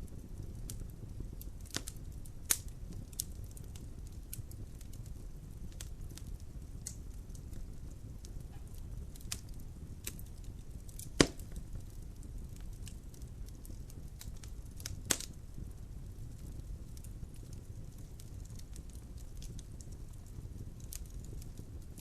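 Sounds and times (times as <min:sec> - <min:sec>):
logs crackling in fireplace: 0:00.0 - 0:22.0
sharp pops of burning logs: 0:00.1 - 0:22.0.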